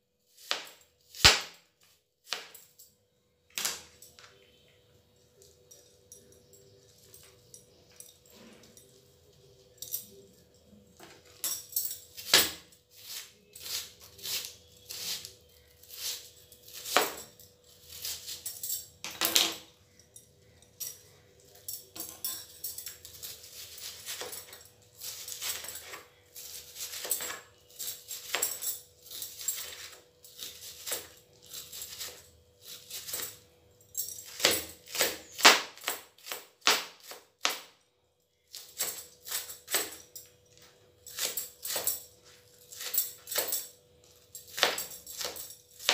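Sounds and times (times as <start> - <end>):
bangles clinking: 0.2 - 45.9.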